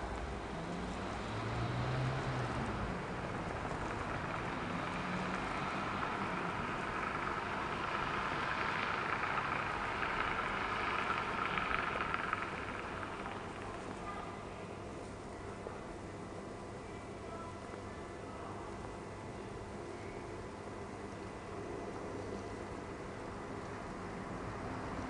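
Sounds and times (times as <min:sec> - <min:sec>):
traffic tyres and engines hissing: 0:00.0 - 0:25.0.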